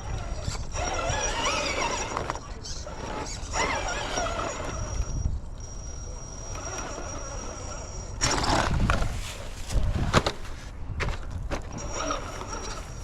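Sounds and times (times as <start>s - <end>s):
high motor whine: 0.0s - 10.6s, 11.5s - 13.0s
tires scrabbling on rock: 0.0s - 13.0s
wind rumbling on microphone: 0.0s - 13.0s.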